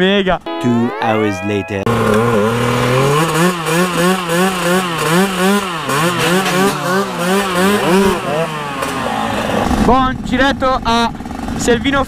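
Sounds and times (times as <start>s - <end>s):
motorcycle engine revving: 1.9s - 11.8s.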